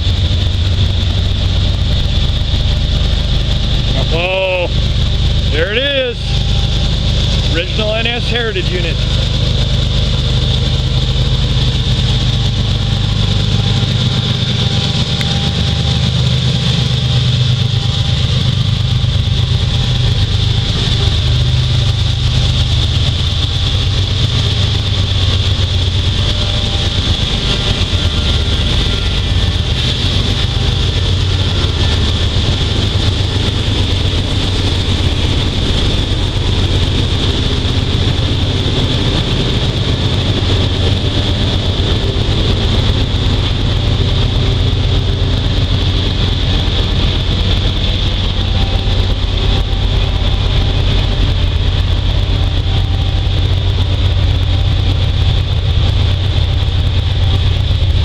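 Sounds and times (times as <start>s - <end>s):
diesel locomotive rumble: 0.0s - 58.0s
freight train passing: 0.0s - 58.0s.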